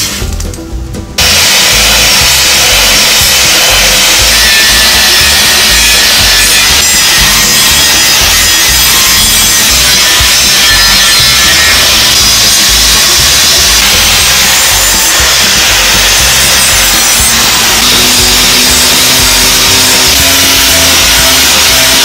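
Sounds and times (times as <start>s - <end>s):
angle grinder grinding steel: 1.2s - 22.0s.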